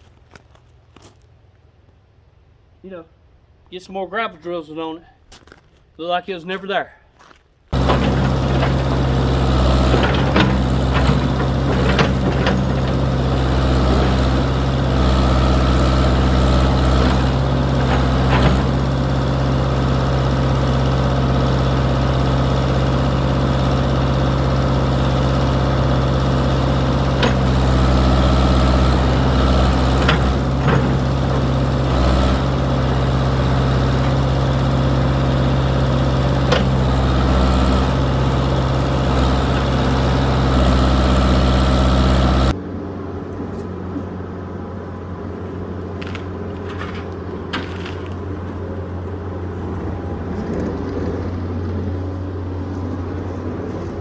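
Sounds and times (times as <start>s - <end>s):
backhoe engine running: 7.7s - 54.0s.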